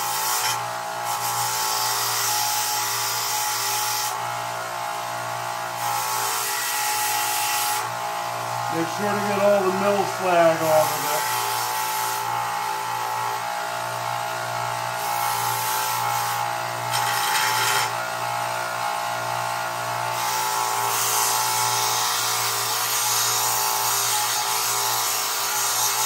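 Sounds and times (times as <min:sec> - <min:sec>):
belt grinder grinding steel: 0:00.0 - 0:26.0.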